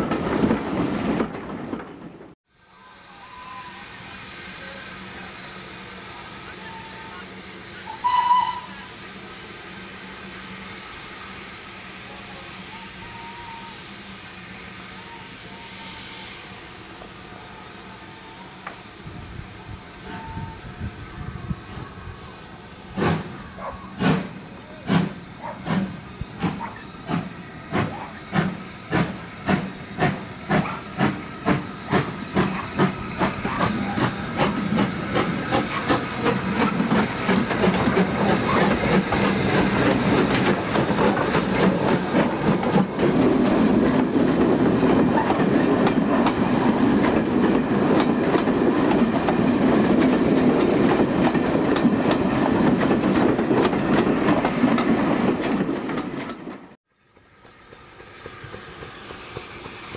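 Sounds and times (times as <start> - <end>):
steam locomotive chuffing: 2.7 - 59.9.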